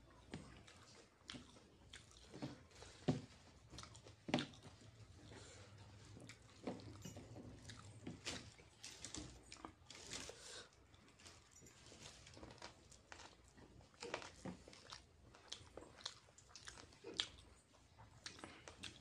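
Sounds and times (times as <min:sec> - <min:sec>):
man chewing with lip smacks: 0:00.1 - 0:19.0.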